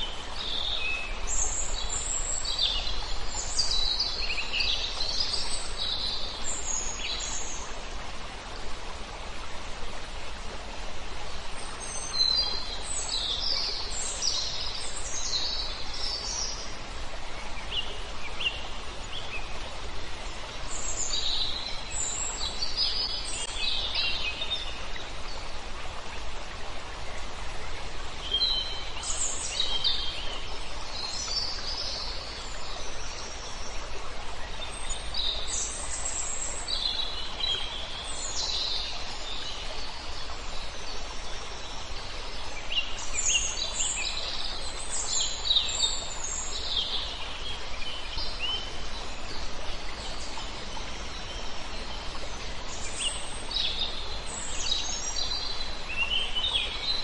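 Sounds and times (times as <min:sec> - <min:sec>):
water: 0:00.0 - 0:57.0
wind: 0:00.0 - 0:57.0.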